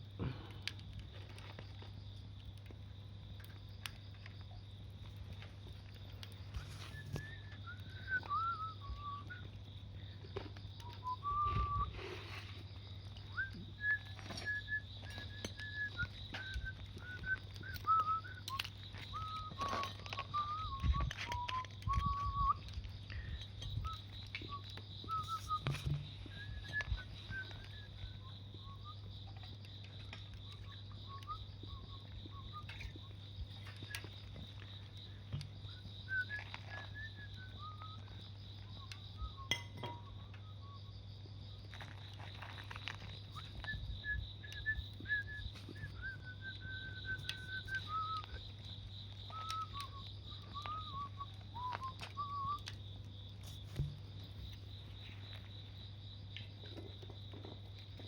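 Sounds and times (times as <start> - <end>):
wood fire crackling: 0.0 - 39.9, 41.6 - 56.5
insects trilling: 0.0 - 58.0.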